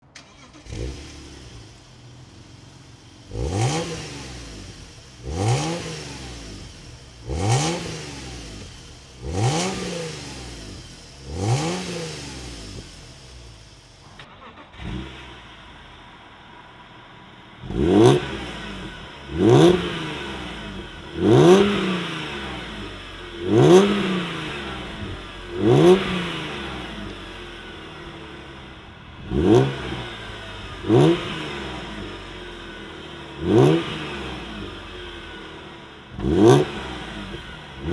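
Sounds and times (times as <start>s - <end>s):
car engine revving from idle: 0.0s - 37.9s.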